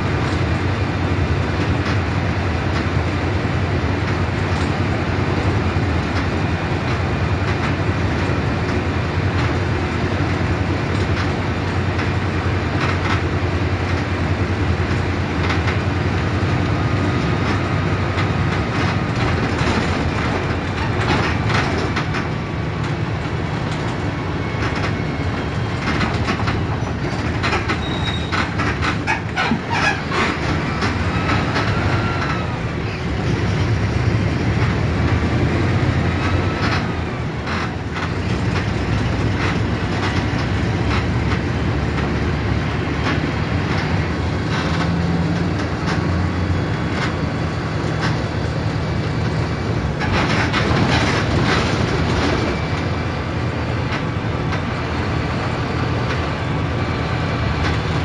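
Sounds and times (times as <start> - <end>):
diesel bus engine drone: 0.0 - 58.0
road noise: 0.0 - 58.0
bodywork clicks and rattles: 3.9 - 58.0.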